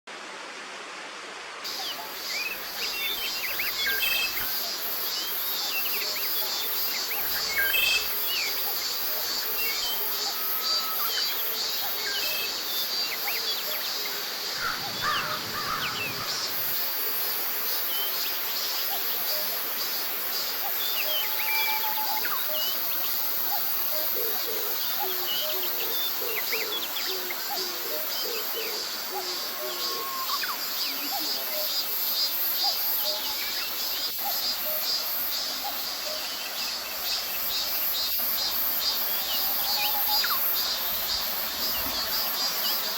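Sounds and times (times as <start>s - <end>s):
cicadas buzzing: 1.7s - 42.9s.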